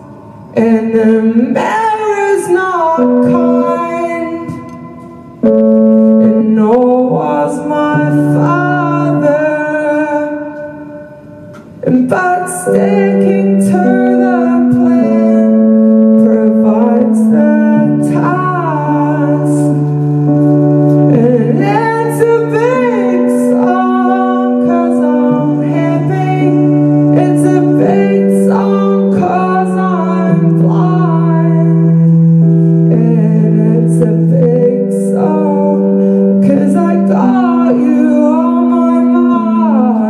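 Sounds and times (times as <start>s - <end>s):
electric keyboard chords: 0.0s - 40.0s.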